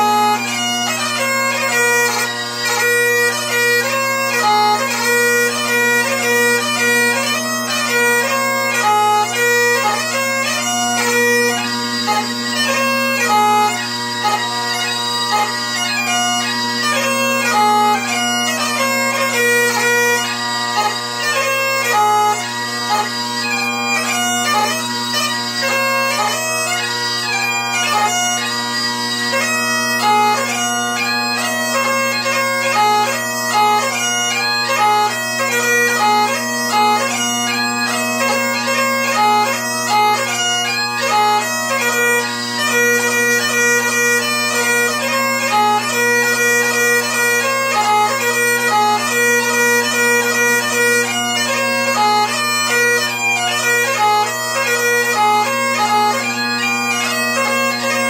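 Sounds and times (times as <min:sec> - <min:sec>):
bagpipe chanter melody: 0:00.0 - 0:58.0
bagpipe drones: 0:00.0 - 0:58.0.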